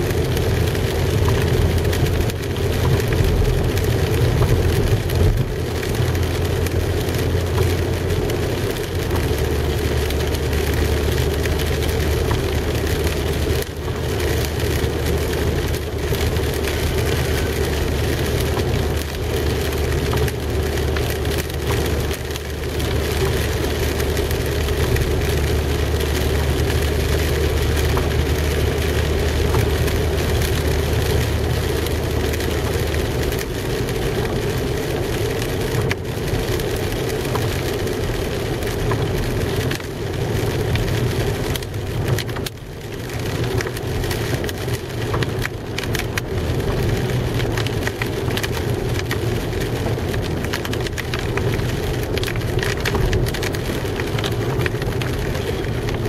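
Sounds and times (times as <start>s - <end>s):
car engine hum: 0.0s - 56.0s
rain on car roof: 0.0s - 56.0s
tyres on wet road: 0.0s - 56.0s.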